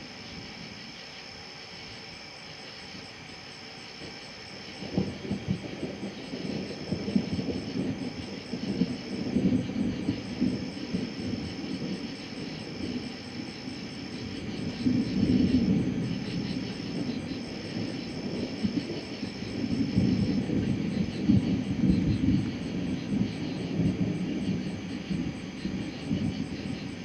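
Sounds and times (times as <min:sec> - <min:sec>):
rolling thunder: 0:04.0 - 0:27.0
sharp thunder crackles: 0:04.0 - 0:27.0.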